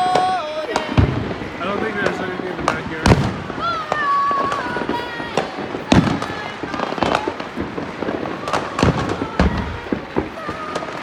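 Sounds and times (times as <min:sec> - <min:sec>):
firecrackers crackling: 0:00.0 - 0:11.0
firework bangs: 0:00.0 - 0:11.0.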